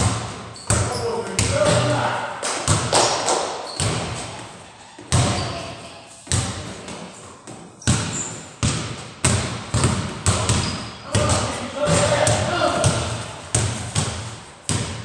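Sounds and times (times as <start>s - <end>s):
basketball bouncing in echoing hall: 0.0s - 15.0s.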